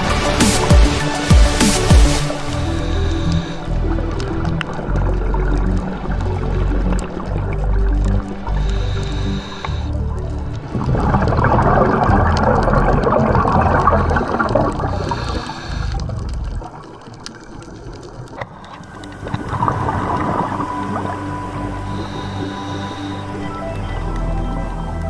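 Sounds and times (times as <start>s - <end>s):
breath bubbling underwater: 0.0s - 24.7s.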